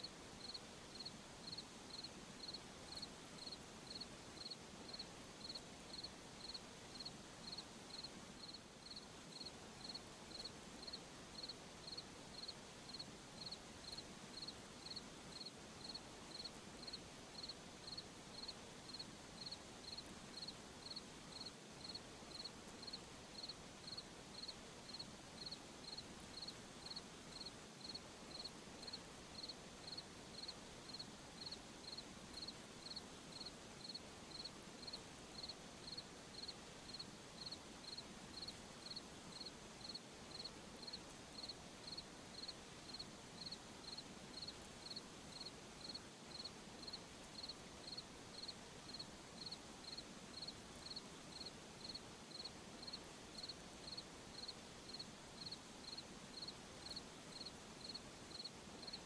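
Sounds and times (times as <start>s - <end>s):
faint steady hiss: 0.0s - 59.0s
cricket chirping: 0.4s - 59.0s.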